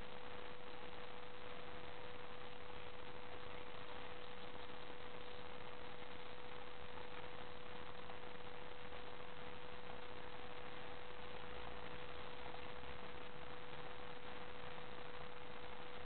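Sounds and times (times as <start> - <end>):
constant humming tone: 0.0 - 16.0
steady hiss: 0.0 - 16.0.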